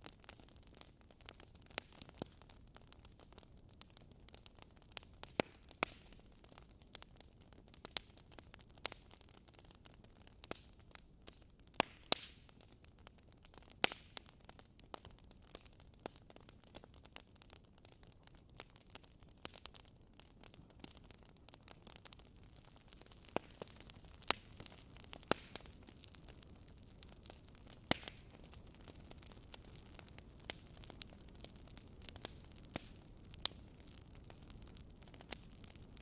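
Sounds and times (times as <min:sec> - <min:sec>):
faint steady hiss: 0:00.0 - 0:36.0
wood fire crackling: 0:00.0 - 0:36.0.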